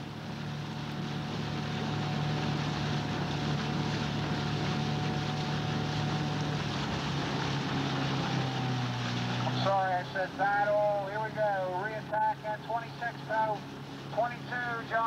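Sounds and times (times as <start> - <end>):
outboard motor running: 0.0 - 15.0
wind and water noise: 0.0 - 15.0.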